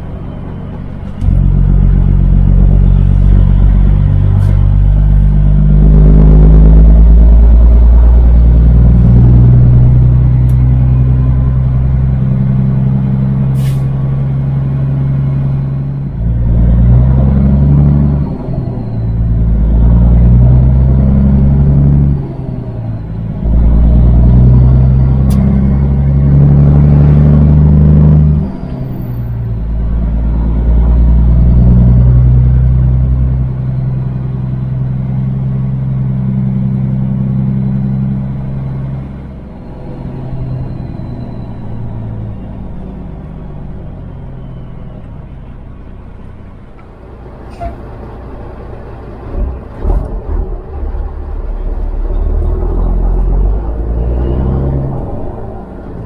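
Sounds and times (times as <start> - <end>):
truck diesel engine under load: 0.0 - 56.0.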